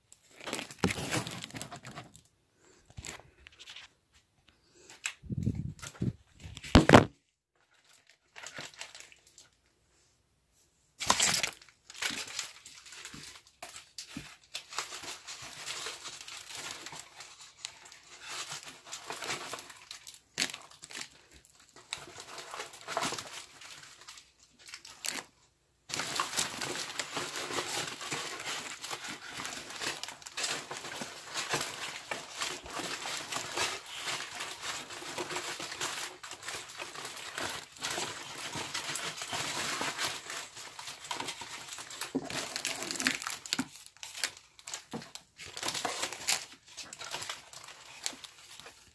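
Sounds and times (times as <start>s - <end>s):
rustling and crinkling handling: 0.0s - 48.9s.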